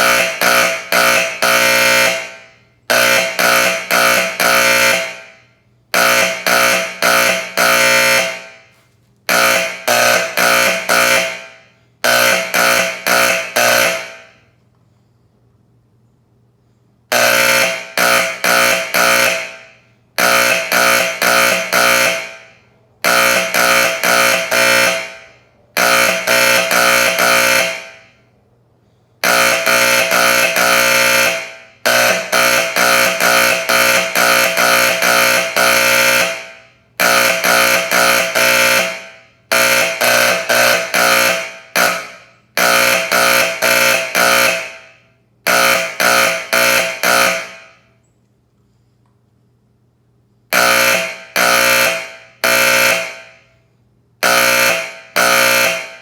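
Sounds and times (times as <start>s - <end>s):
buzzing fire alarm horn: 0.0s - 15.5s, 16.4s - 48.0s, 50.4s - 56.0s.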